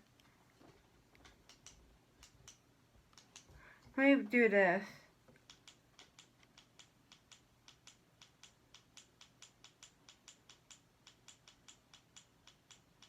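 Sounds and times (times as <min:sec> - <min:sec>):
faint rapid clicking: 0:00.0 - 0:04.0, 0:05.2 - 0:13.0.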